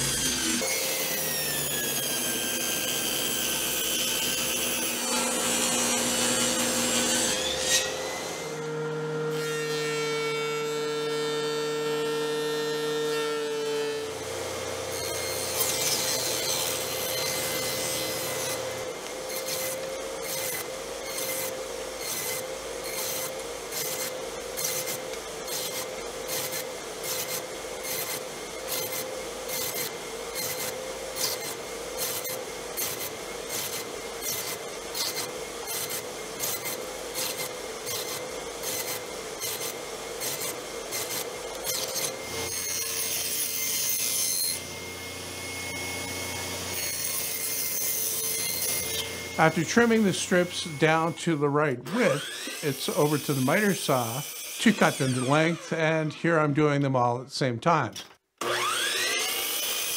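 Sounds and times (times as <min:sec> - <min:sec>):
table saw ripping wood: 0:00.0 - 0:56.1, 0:58.0 - 0:59.9.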